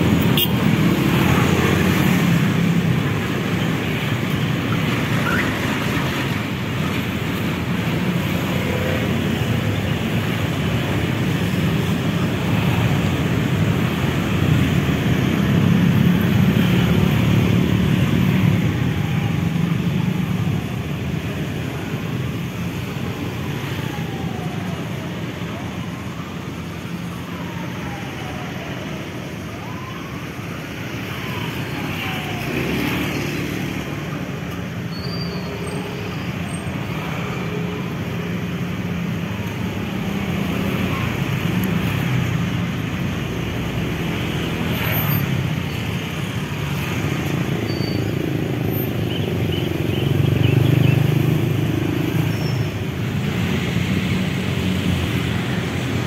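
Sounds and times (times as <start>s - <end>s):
cars and motorbikes passing: 0.0s - 56.0s.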